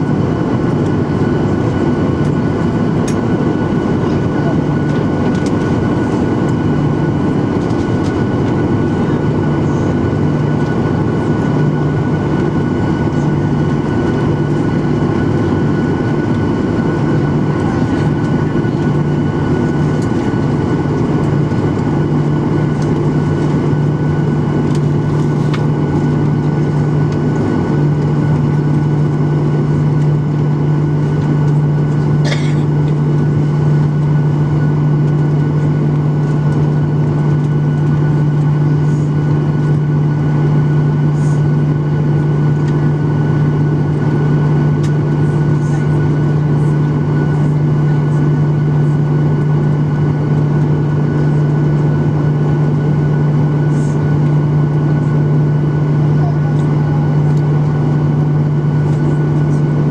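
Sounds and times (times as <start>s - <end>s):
airplane cabin engine hum: 0.0s - 59.9s
constant rumble: 0.0s - 59.9s
high engine whine: 0.0s - 59.9s.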